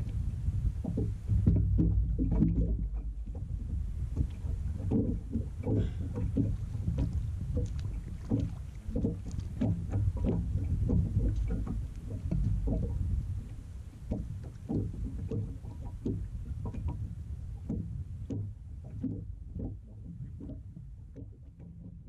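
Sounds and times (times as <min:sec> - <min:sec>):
waves slapping boat hull: 0:00.0 - 0:22.0
wind buffeting microphone: 0:00.0 - 0:22.0.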